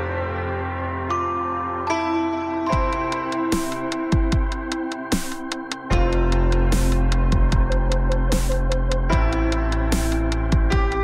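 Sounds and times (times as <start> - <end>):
ambient synthesizer chords: 0.0 - 11.0.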